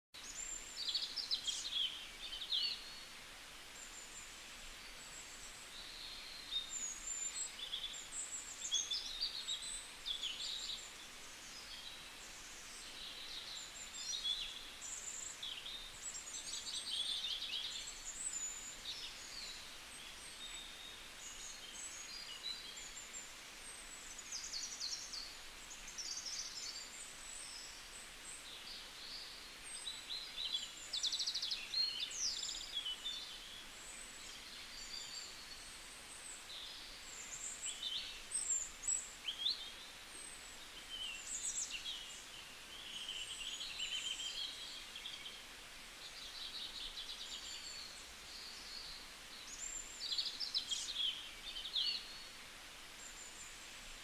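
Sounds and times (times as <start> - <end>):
faint steady hiss: 0.2 - 54.0.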